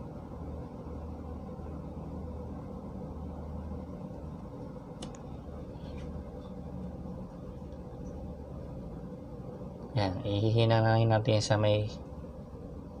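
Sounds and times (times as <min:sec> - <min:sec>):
low hum of workshop room noise: 0:00.0 - 0:13.0.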